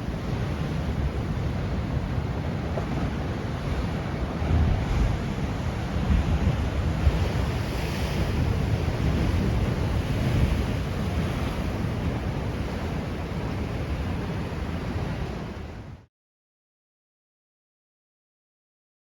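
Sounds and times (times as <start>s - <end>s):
surf on rocky shore: 0.0s - 16.1s
wind buffeting microphone: 0.1s - 16.0s.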